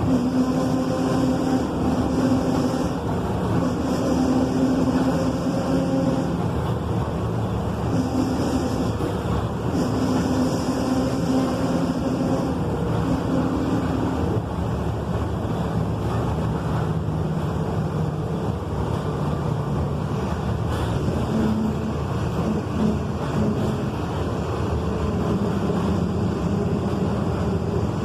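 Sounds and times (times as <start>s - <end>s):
constant rushing noise: 0.0s - 28.0s
truck diesel engine running: 0.0s - 28.0s.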